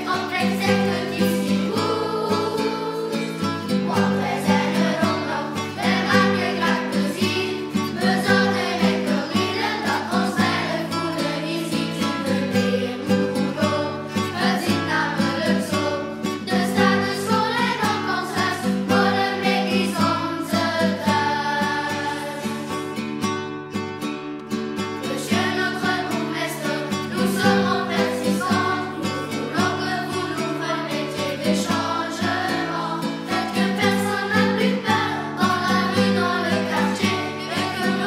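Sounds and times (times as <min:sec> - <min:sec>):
people singing: 0:00.0 - 0:22.9, 0:25.0 - 0:38.0
plucked guitar: 0:00.0 - 0:38.0.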